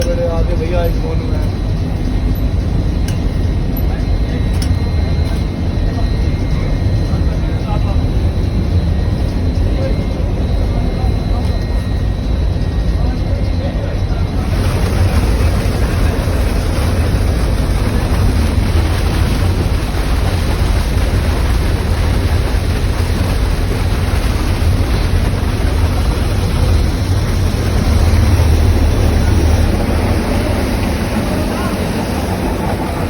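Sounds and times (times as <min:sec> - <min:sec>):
machine engine rumbling: 0:00.0 - 0:33.0.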